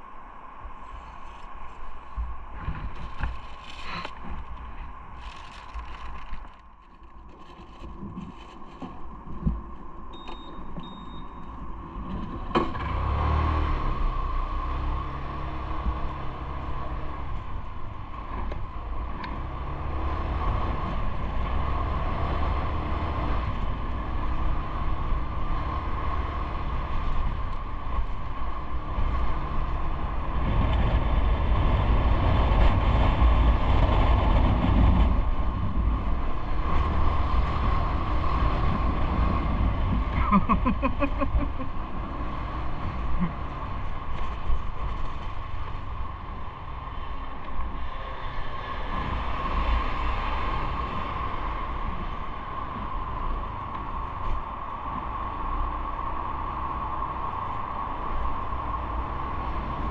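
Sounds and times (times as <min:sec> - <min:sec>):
road vehicle rumble: 0:00.0 - 0:59.9.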